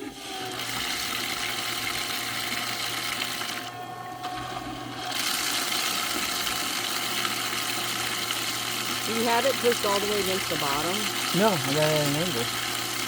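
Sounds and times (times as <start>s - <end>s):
aerator pump motor hum: 0.0s - 13.0s.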